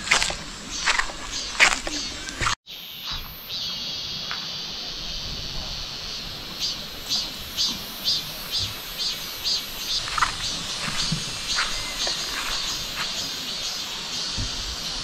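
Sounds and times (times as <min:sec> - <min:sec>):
insects buzzing: 0:00.0 - 0:15.0
pulsing high insect call: 0:00.0 - 0:15.0.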